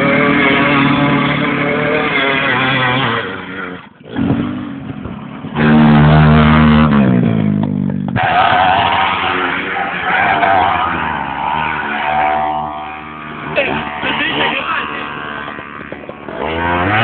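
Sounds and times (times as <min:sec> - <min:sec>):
motorcycle engines revving hard: 0:00.0 - 0:17.0.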